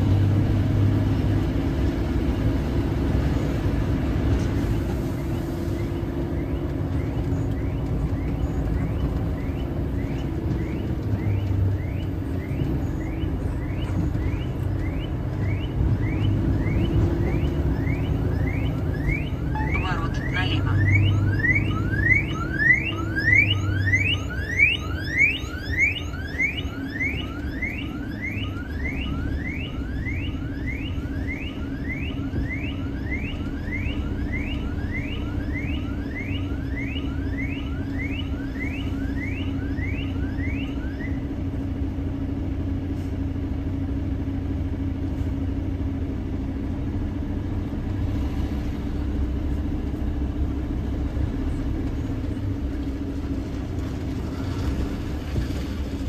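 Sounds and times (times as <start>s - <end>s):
truck engine rumble: 0.0s - 56.0s.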